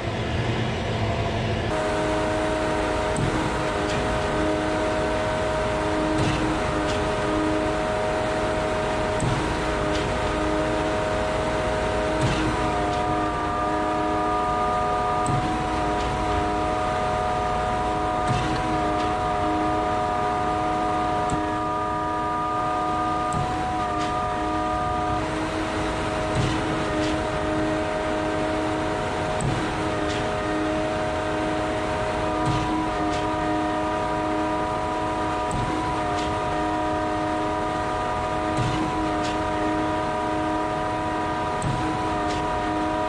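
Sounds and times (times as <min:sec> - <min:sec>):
pump engine whine: 0:00.0 - 0:43.0.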